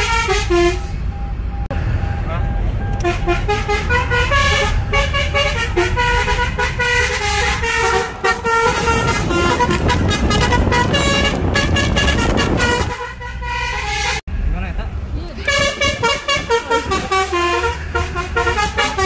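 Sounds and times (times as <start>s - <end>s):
multi-tone car horn tune: 0.0s - 1.2s, 2.8s - 14.2s, 15.4s - 19.0s
car engine: 0.0s - 19.0s
road rumble: 0.0s - 19.0s.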